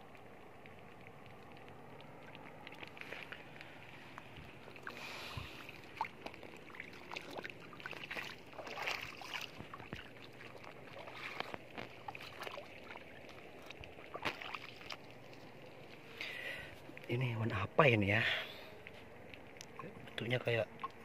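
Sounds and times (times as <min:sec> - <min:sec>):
footsteps sloshing through water: 0:00.1 - 0:17.1.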